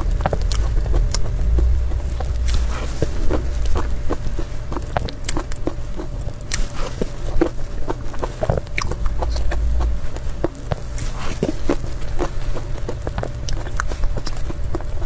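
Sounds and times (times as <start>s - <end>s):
low hum: 0.0s - 15.0s
wet mouth eating sounds: 0.0s - 15.0s.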